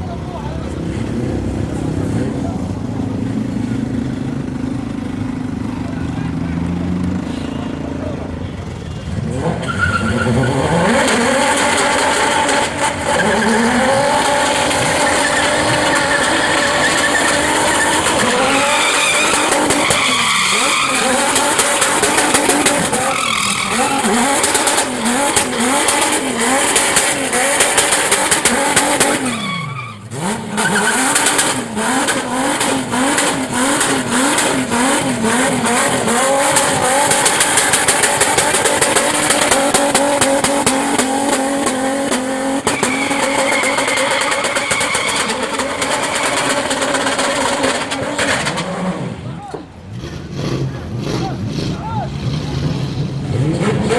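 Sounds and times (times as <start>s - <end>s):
tires skidding and screeching: 0.0s - 53.9s
car engine revving high: 9.1s - 53.9s.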